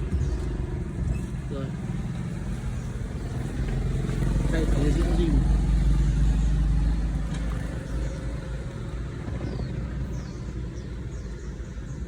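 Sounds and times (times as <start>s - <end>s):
car engine running: 0.0s - 11.6s.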